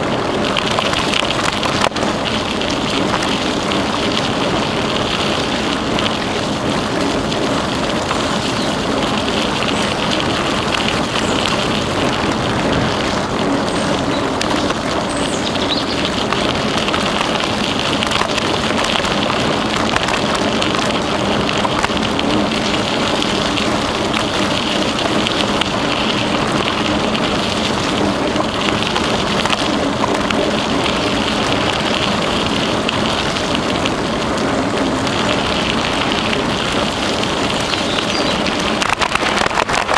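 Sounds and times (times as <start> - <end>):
bicycle tyres rolling on trail: 0.0 - 39.9.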